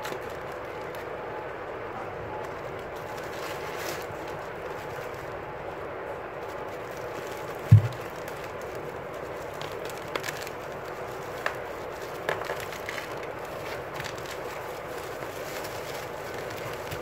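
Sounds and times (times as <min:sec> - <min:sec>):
bubble wrap crinkling: 0:00.0 - 0:01.3, 0:02.4 - 0:17.0.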